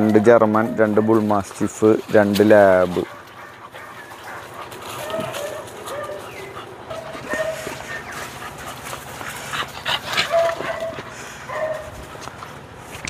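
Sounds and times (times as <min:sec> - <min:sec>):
puppies whining and yipping: 0:00.0 - 0:12.0
puppies scuffling: 0:00.0 - 0:13.0.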